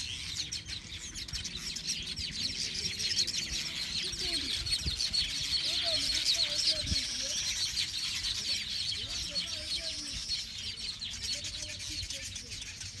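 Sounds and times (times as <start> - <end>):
weaver birds chattering: 0.0 - 13.0.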